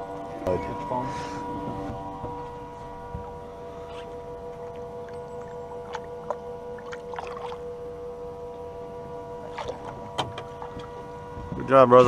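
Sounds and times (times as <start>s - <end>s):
low rumble: 0.0s - 12.0s
steady electric hum: 0.0s - 12.0s.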